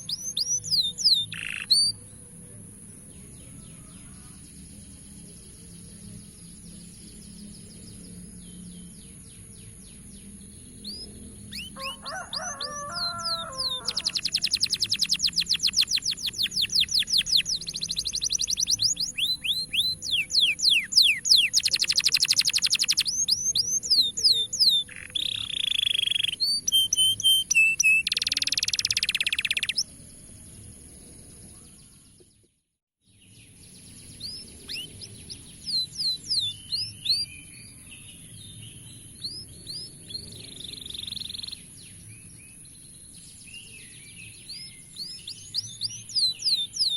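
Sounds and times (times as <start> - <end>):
canary singing fast trills: 0.0 - 2.2, 6.2 - 30.0, 33.5 - 42.4, 43.0 - 46.9.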